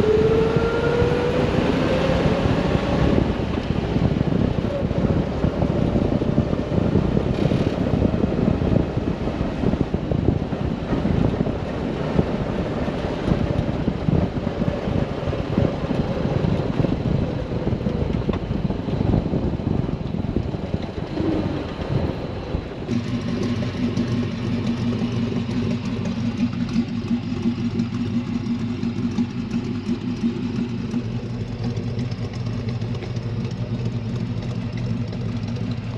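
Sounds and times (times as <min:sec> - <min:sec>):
car engine running: 0:00.0 - 0:35.9
road and wind noise: 0:00.0 - 0:35.9
car engine idling: 0:03.2 - 0:35.9.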